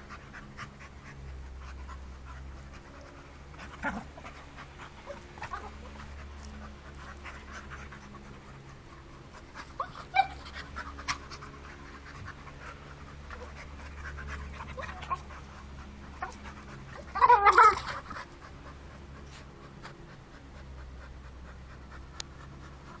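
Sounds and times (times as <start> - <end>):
dog vocalising: 0.0 - 23.0
dogs panting: 0.0 - 23.0.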